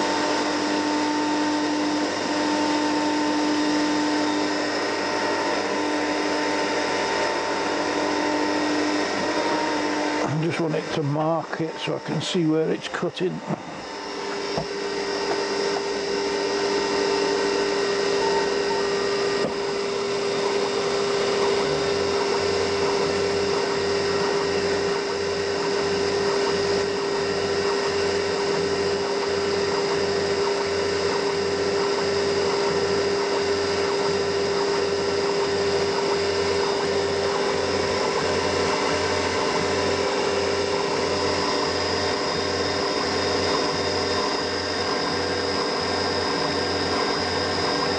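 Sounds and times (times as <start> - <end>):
low pulsing of cutter: 0.0 - 47.9
milling machine spindle whine: 0.0 - 47.9.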